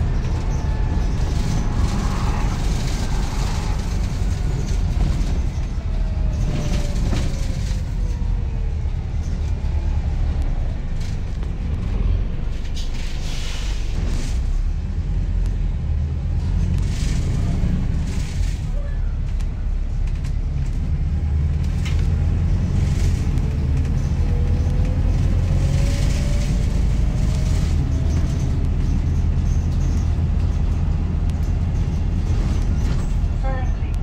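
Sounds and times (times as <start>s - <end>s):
bus diesel engine rumble: 0.0s - 34.0s.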